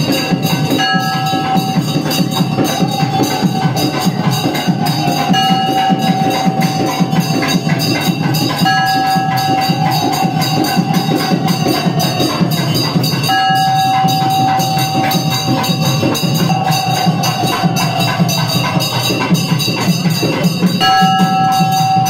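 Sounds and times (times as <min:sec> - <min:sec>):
fast steady drumming: 0:00.0 - 0:22.0
reedy wind instrument: 0:00.0 - 0:22.0.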